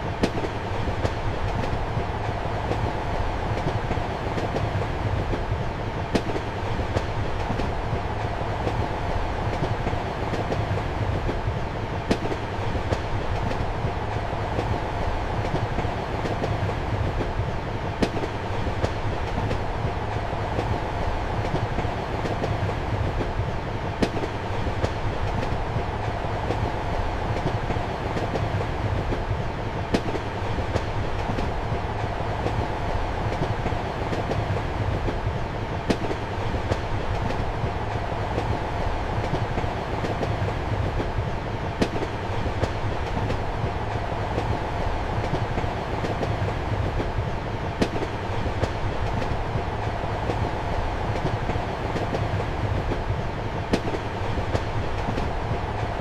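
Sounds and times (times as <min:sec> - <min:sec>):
train rumble and hum: 0:00.0 - 0:56.0.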